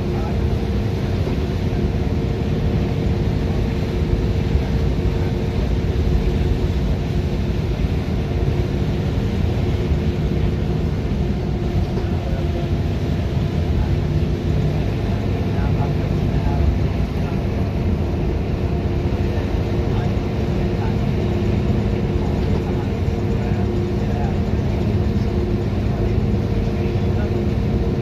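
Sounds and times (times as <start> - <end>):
bus engine and road drone: 0.0 - 28.0.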